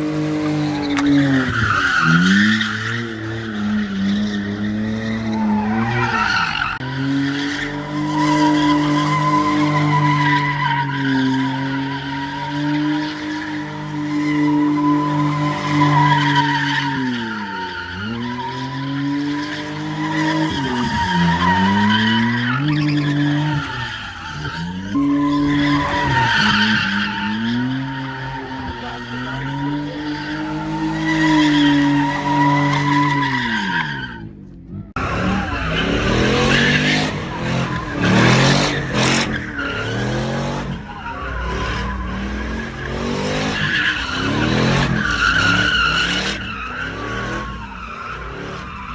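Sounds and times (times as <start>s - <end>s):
car engine revving high: 0.0s - 48.9s
tires squealing: 0.0s - 48.9s.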